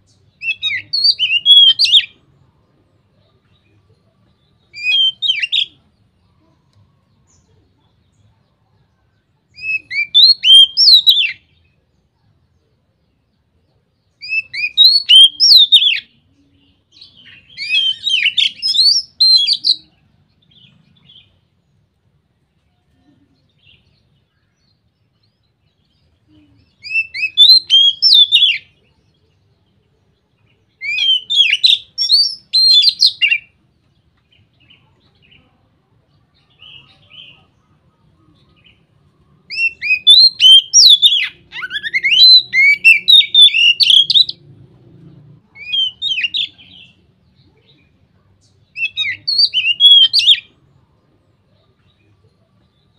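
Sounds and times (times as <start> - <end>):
songbird whistling and chirping: 0.0 - 22.0, 22.7 - 35.6, 36.2 - 44.5, 45.5 - 52.9.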